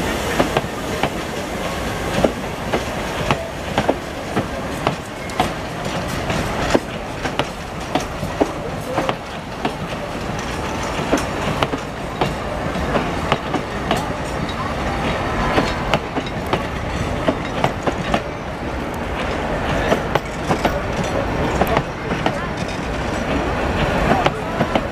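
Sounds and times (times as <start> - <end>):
steady rumble of rolling coaches: 0.0 - 24.9
train wheels clicking over rail joints: 0.0 - 24.9.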